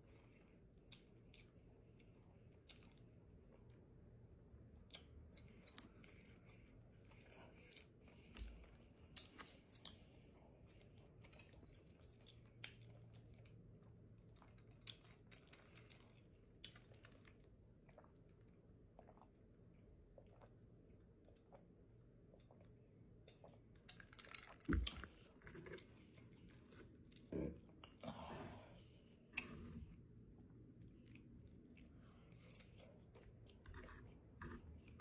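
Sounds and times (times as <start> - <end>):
faint chewing: 0.0 - 3.8, 4.8 - 35.0.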